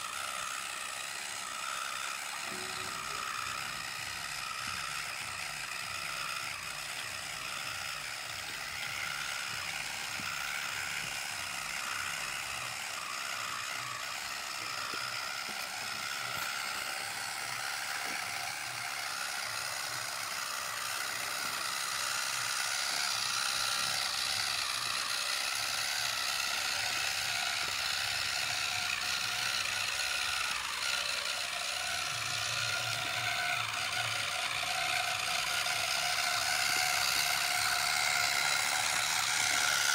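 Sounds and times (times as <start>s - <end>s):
small electric motor whirring: 0.0s - 39.9s.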